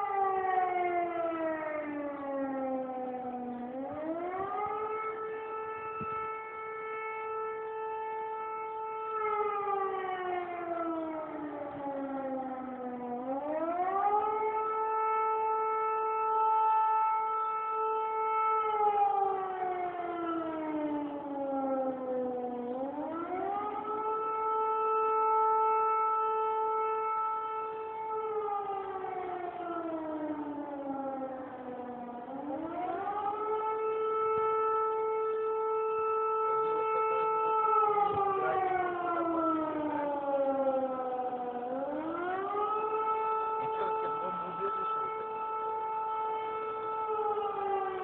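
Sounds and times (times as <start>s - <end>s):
warning siren wailing: 0.0s - 48.0s.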